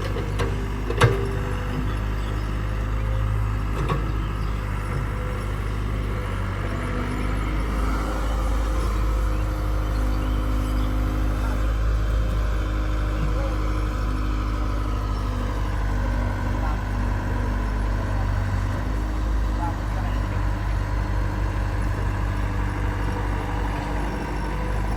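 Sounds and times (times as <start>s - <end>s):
diesel engine humming: 0.0s - 24.9s.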